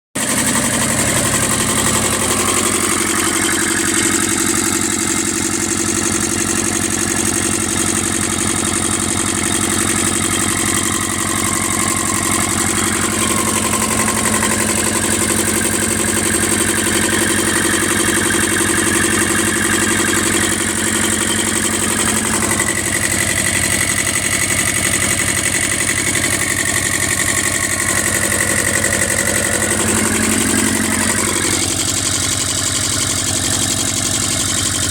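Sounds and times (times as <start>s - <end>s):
engine idling: 0.2s - 34.9s.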